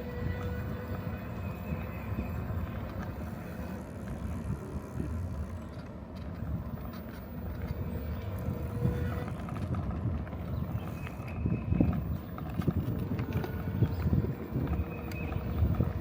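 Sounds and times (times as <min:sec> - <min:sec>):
bicycle tyres rolling on road: 0:00.0 - 0:16.0
wind rumbling on microphone: 0:00.0 - 0:16.0.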